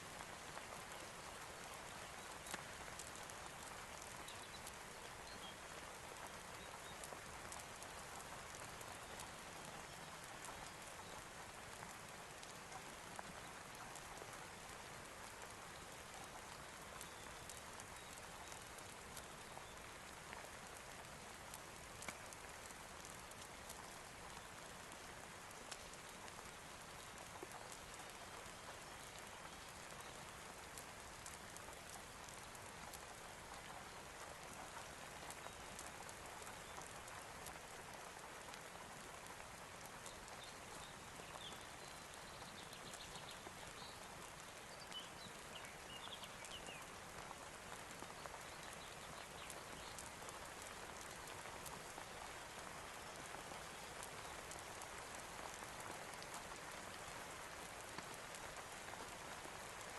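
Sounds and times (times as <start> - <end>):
soft rain falling: 0.0 - 59.9.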